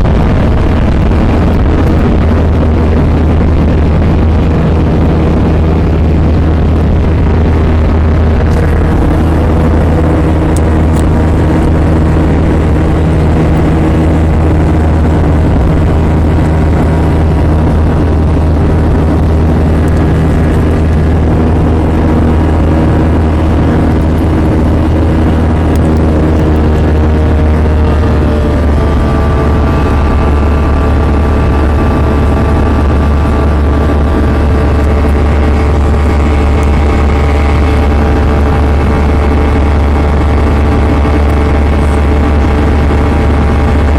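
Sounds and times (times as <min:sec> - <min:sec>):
higher engine tones: 0:00.0 - 0:43.9
jet engine cabin drone: 0:00.0 - 0:43.9.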